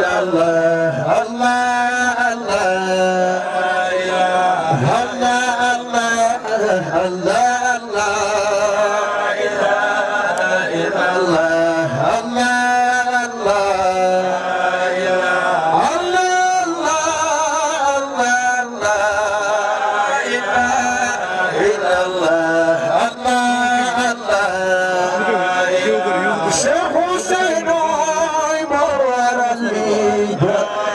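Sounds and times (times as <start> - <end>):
man chanting: 0.0 - 30.9.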